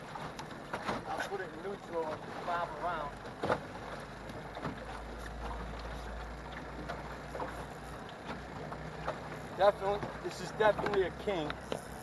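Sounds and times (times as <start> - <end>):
water slapping against boat: 0.0 - 12.0.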